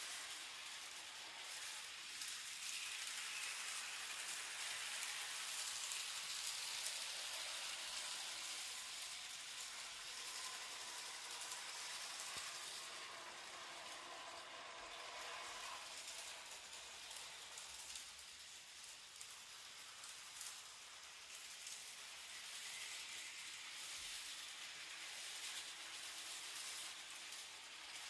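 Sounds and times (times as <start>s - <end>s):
faint thin whine: 0.0s - 28.0s
model train hiss on track: 0.0s - 28.0s.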